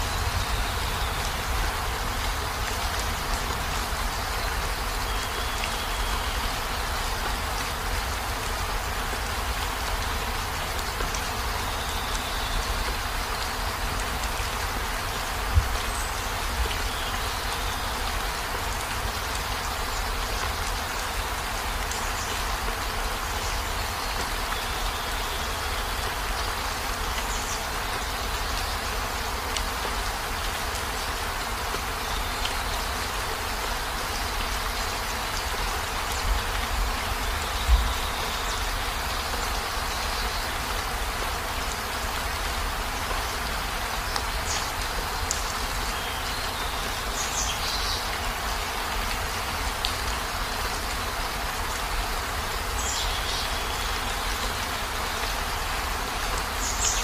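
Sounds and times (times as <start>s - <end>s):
heavy rain on vehicle roof: 0.0s - 57.0s.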